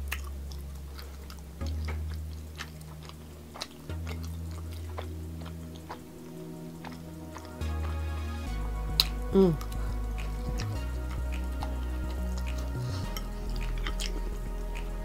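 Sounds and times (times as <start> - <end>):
background music with deep bass: 0.0 - 15.0
chewing soft food: 0.0 - 15.0.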